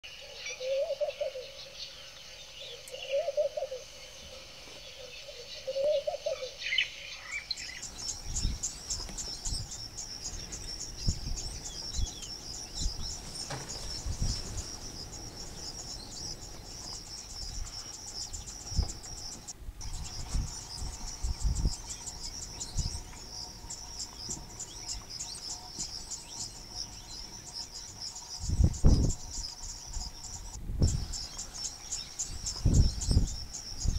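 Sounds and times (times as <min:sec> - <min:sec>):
bird calls: 0:00.0 - 0:33.9
insects trilling: 0:00.0 - 0:33.9.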